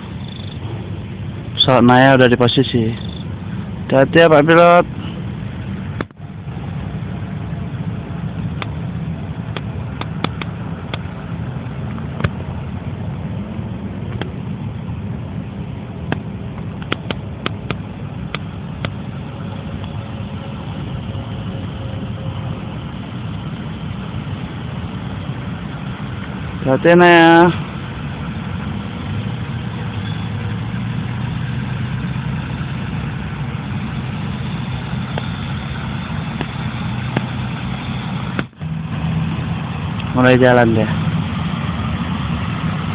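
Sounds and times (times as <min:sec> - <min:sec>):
engines idling rumble: 0:00.0 - 0:42.9.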